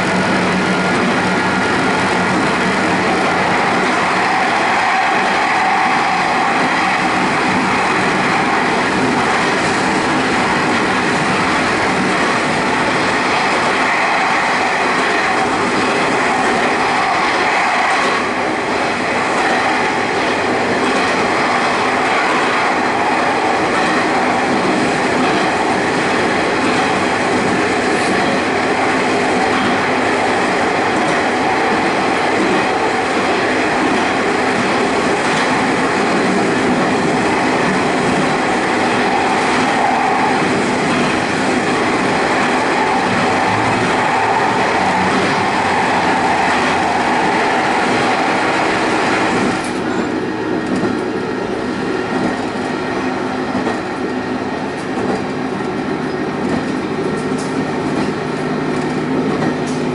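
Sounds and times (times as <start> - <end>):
train rumbling in tunnel: 0.0 - 59.9.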